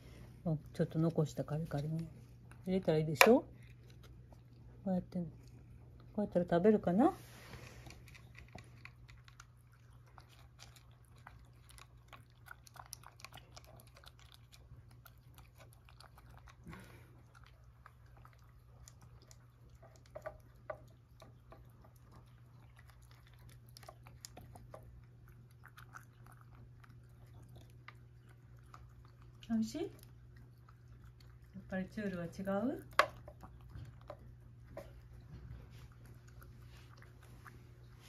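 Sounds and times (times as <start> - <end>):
cat chewing kibble: 0.0 - 2.8, 3.4 - 38.0
steady low hum: 0.0 - 38.0.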